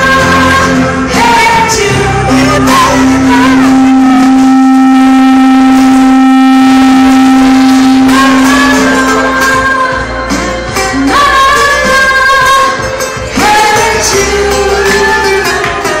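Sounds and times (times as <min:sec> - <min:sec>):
live rock band holding note: 0:00.0 - 0:16.0.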